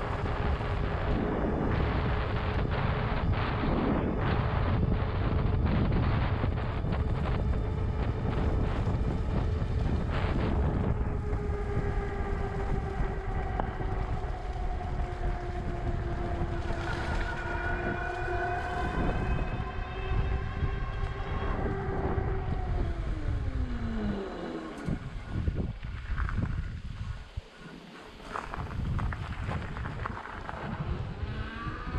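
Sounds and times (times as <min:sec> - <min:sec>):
electric motor whine: 0:00.0 - 0:26.8, 0:27.6 - 0:31.9
rolling rumble: 0:00.0 - 0:31.9
wind rush: 0:00.0 - 0:31.9.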